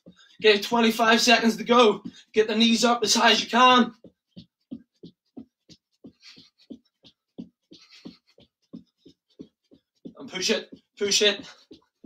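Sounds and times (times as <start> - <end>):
footfalls running on the spot: 0.0 - 12.0.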